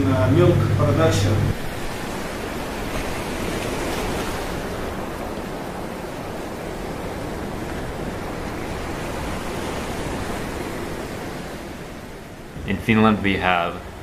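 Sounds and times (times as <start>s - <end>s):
underwater rushing water: 0.0s - 14.0s.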